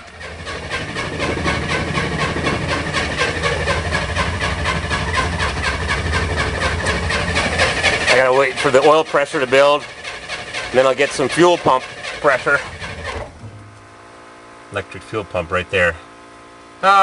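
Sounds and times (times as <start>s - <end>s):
engine cranking without firing: 0.0s - 15.8s.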